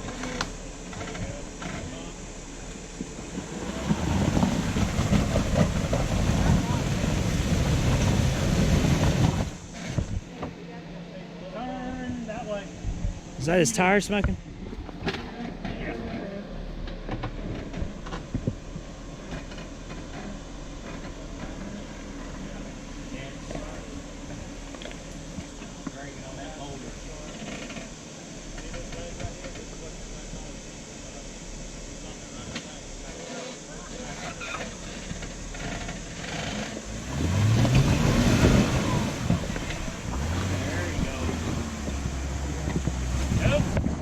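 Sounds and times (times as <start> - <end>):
off-road vehicle engine straining: 0.0 - 44.0.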